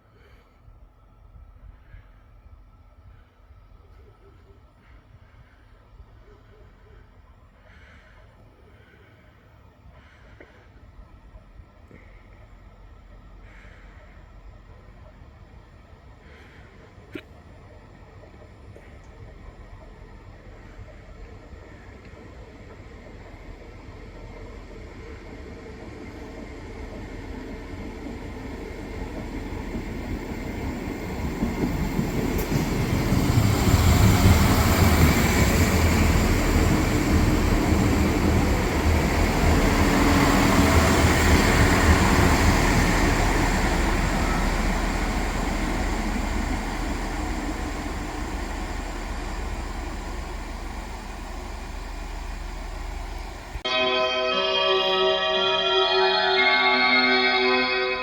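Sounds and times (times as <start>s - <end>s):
train rumbling on tracks: 0.0s - 58.0s.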